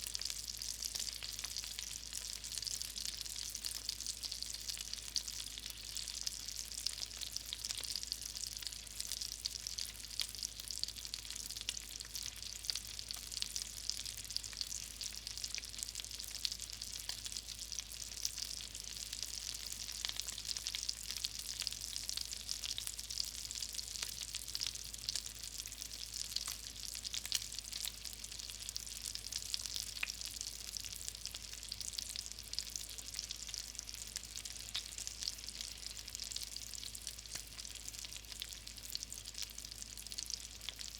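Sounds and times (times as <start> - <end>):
grease sizzling in a pan: 0.0 - 40.9.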